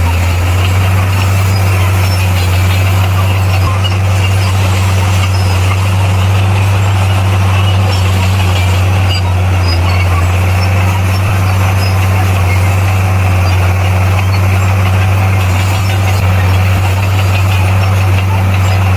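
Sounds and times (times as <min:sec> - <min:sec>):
diesel engine droning: 0:00.0 - 0:18.9.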